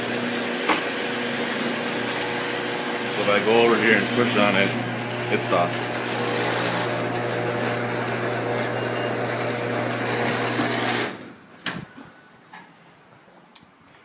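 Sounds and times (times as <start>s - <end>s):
garage door opener motor humming: 0.0s - 11.3s.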